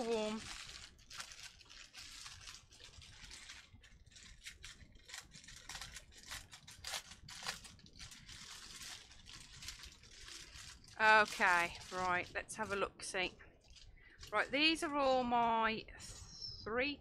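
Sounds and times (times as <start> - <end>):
plastic bags crinkling: 0.0 - 15.2.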